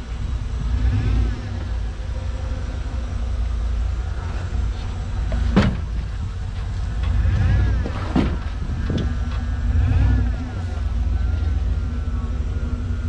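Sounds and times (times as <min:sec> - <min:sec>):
off-road vehicle engine at low revs: 0:00.0 - 0:13.0.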